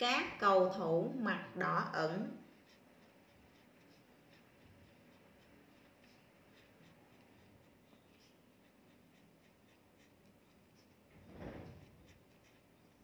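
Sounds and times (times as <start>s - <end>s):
pen scratching on paper: 1.4s - 13.0s.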